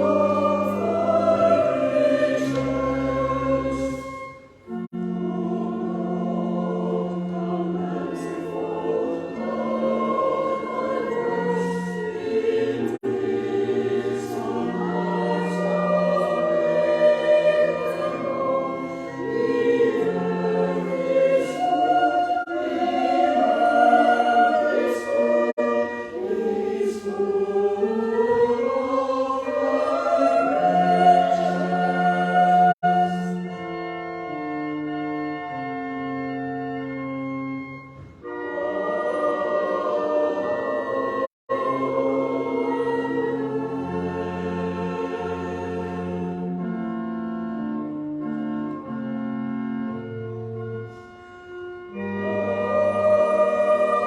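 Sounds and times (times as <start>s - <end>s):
low held accompaniment notes: 0.0s - 54.0s
voices singing a hymn: 0.0s - 54.0s.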